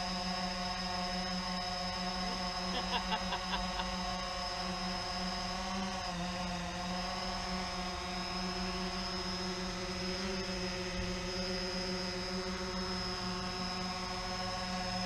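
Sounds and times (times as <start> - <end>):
drone propellers buzzing whine: 0.0 - 15.0.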